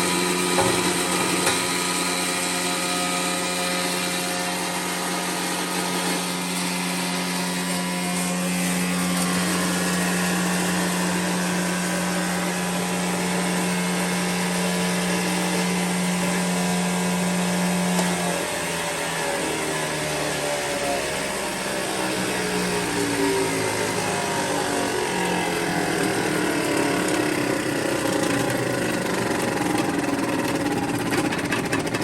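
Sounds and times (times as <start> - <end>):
loud whirring: 0.0 - 32.0.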